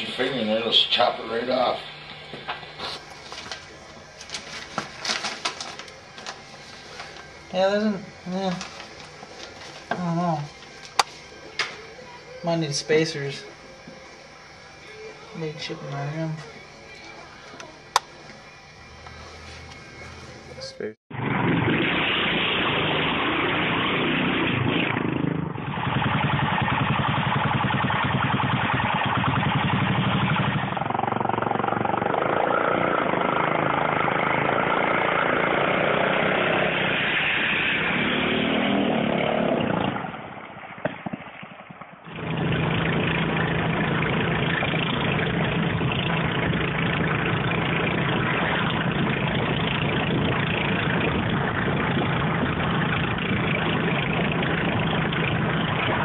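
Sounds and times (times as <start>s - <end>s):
small motorbike engines running: 0.0s - 41.2s, 41.9s - 56.0s
car engine and road drone: 0.0s - 56.0s.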